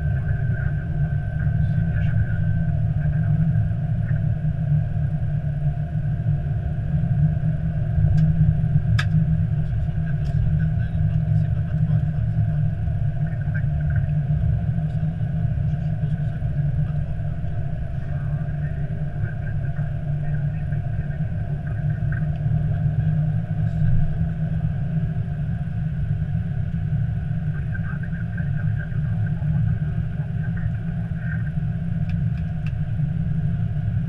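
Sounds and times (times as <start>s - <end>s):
cockpit low rumble: 0.0s - 34.0s.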